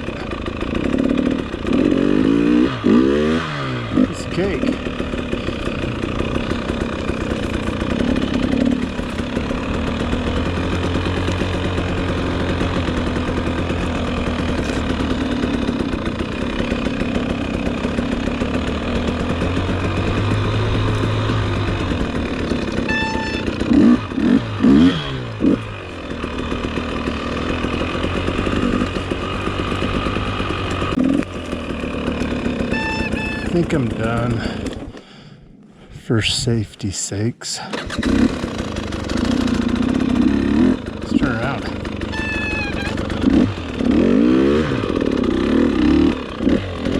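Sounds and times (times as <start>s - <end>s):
dirt bike engine revving: 0.0s - 35.2s, 37.6s - 46.9s.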